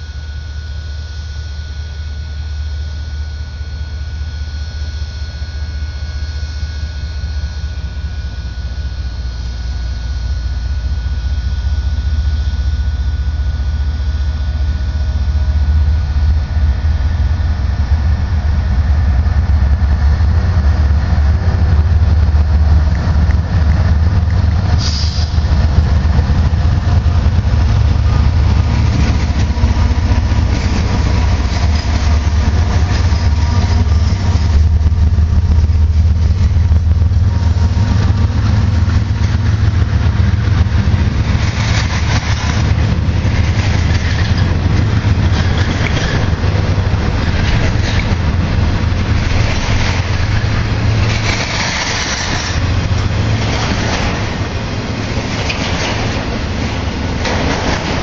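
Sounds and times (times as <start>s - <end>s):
locomotive engines droning: 0.0s - 58.0s
train wheels rumbling on rails: 0.0s - 58.0s.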